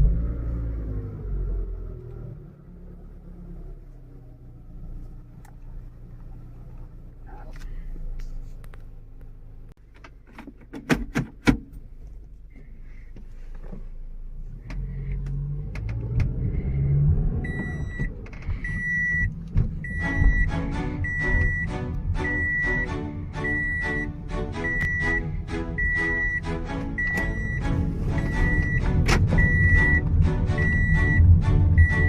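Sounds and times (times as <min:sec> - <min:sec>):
car engine rumbling: 0:00.0 - 0:32.0.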